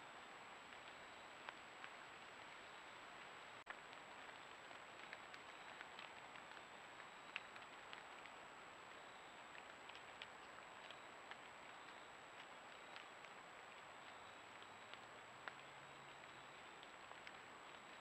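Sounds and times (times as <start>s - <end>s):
faint ticks: 3.6s - 18.0s.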